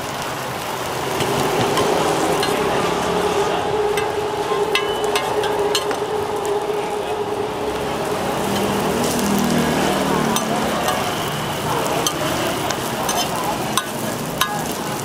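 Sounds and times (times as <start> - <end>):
bread sizzling in oil: 0.0 - 6.0, 8.3 - 15.0
steady hum: 0.7 - 15.0.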